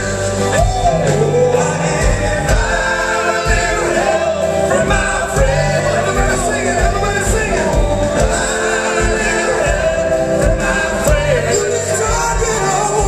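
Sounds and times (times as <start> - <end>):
men singing in harmony: 0.0 - 13.0
pop-rock band playing: 0.0 - 13.0.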